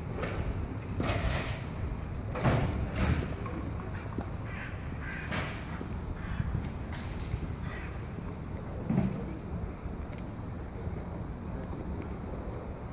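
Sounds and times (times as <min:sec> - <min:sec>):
low background noise: 0:00.0 - 0:12.9.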